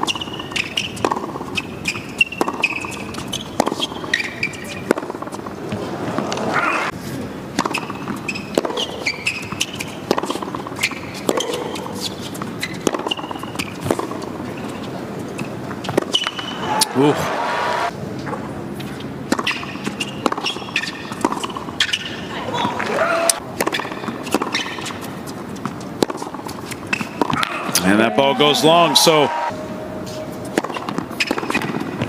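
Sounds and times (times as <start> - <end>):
tennis ball struck: 0.0 - 6.6, 7.6 - 14.4, 15.4 - 17.2, 19.3 - 28.5, 30.4 - 32.0
shoes squeaking on court: 0.0 - 17.3, 18.1 - 23.0, 23.6 - 32.0.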